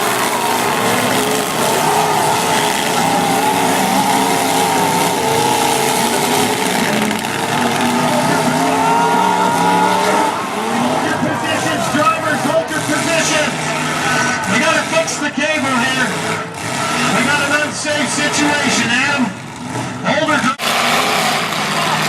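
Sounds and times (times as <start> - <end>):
tyres squealing: 0.0 - 19.9
car engines revving hard: 0.0 - 22.0.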